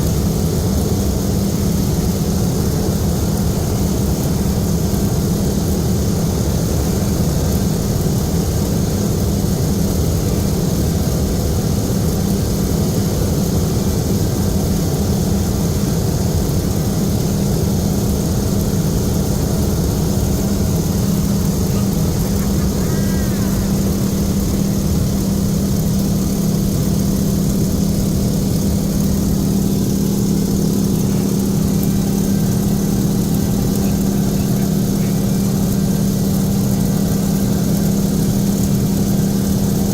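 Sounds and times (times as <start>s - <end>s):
radial aircraft engine droning: 0.0s - 39.9s.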